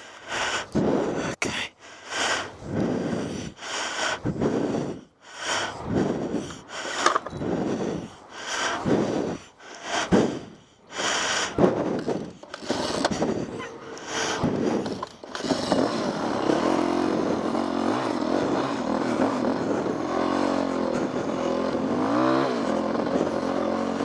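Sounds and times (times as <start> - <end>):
person breathing hard: 0.0 - 24.0.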